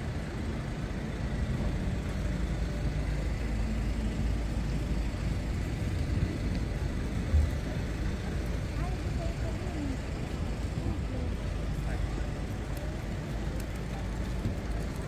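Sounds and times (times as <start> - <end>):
low rumble of motor traffic: 0.0 - 15.0.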